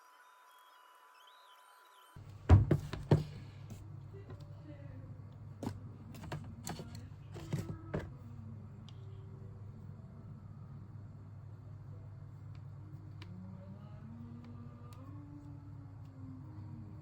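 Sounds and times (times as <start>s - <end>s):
steady low hum: 2.2s - 17.0s.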